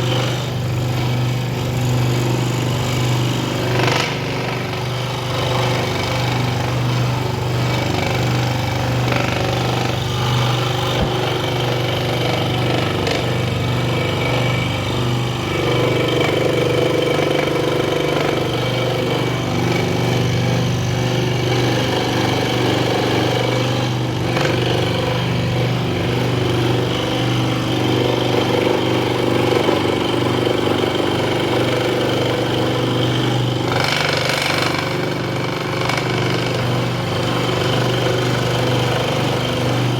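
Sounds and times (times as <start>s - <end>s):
scroll saw cutting wood: 0.0s - 39.9s.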